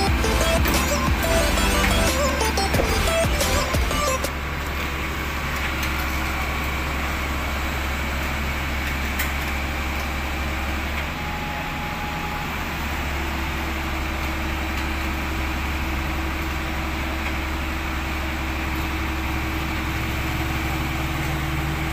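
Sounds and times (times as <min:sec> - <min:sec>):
truck engine idling: 0:00.0 - 0:21.9.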